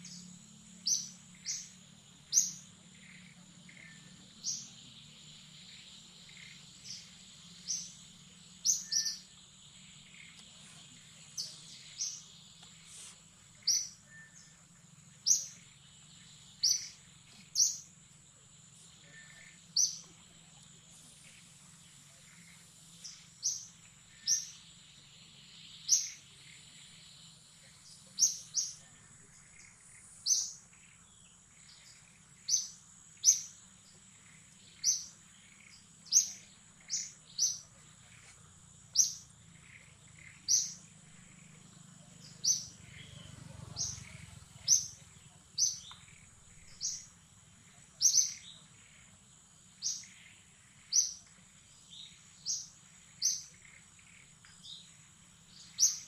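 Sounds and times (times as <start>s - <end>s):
bird chirping: 0.0s - 56.0s
high-pitched insect drone: 0.0s - 56.0s.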